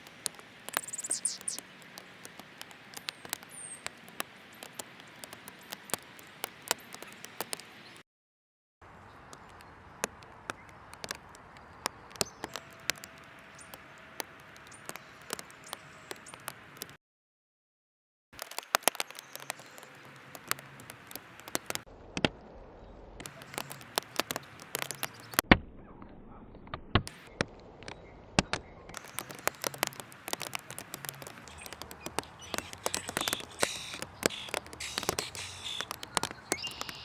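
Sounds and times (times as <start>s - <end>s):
birds pecking seed: 0.0s - 8.0s, 8.8s - 17.0s, 18.4s - 21.9s, 23.2s - 25.4s, 27.1s - 37.0s.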